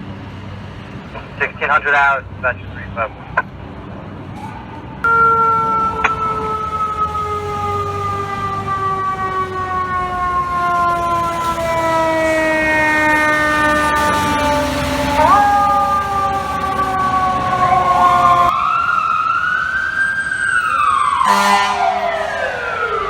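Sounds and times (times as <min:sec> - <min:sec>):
fire truck siren wail: 0:04.1 - 0:23.0.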